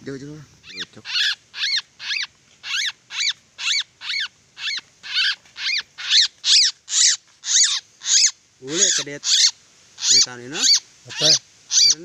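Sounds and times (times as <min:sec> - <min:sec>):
bird giving harsh calls: 0:00.6 - 0:12.0.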